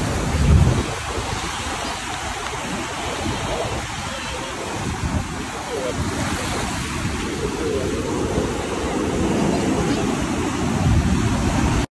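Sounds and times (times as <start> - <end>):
surf breaking on beach: 0.0 - 11.9.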